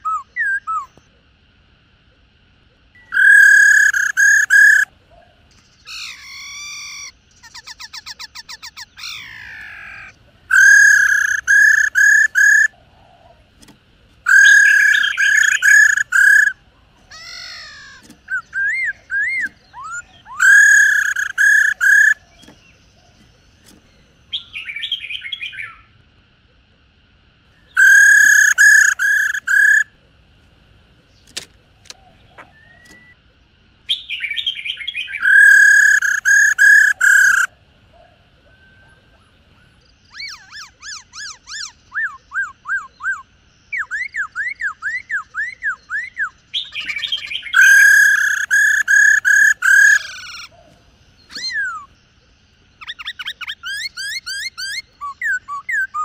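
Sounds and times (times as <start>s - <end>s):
laughingthrush calling: 0.0s - 1.3s, 2.1s - 25.9s, 27.5s - 30.2s, 30.9s - 56.0s.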